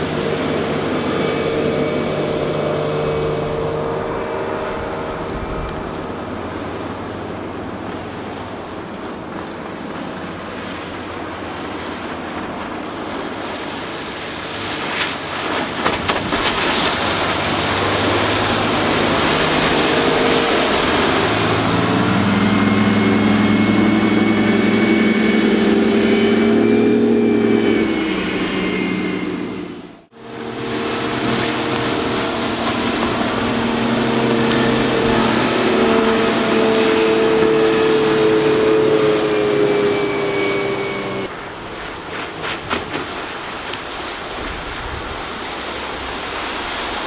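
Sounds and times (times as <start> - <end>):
hull and water noise: 0.0 - 47.0
motorboat engine running: 0.0 - 47.0.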